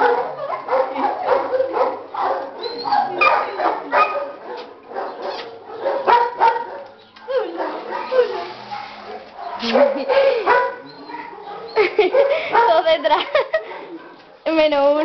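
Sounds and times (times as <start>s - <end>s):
puppies barking and yelping: 0.0s - 14.4s.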